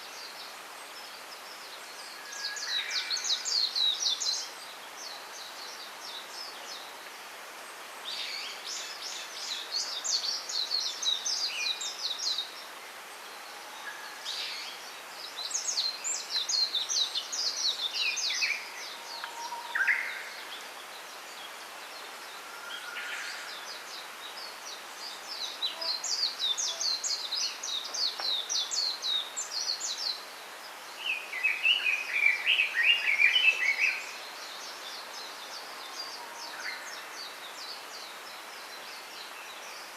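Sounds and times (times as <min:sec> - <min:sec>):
lower busier birdsong: 0:00.0 - 0:39.9
songbirds twittering: 0:00.0 - 0:39.9
steady hiss: 0:00.0 - 0:39.9.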